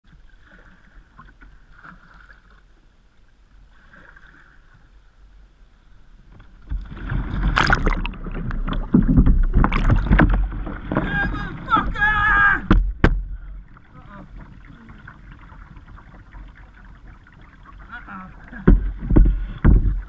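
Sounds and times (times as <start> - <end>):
water splashing around kayak: 0.0 - 20.0.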